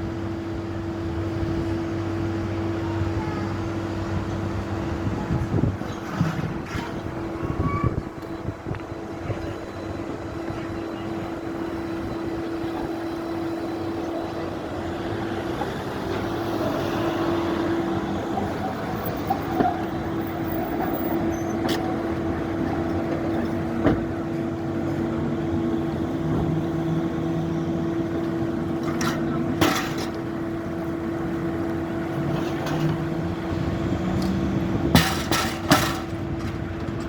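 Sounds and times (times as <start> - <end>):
street noise: 0.0 - 37.0
tram electric hum: 0.0 - 37.0.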